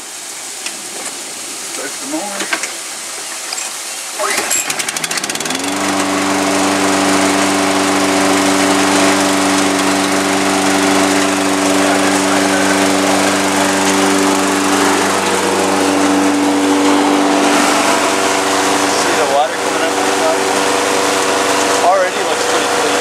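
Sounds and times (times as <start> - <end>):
lawn mower engine running: 4.2 - 23.0.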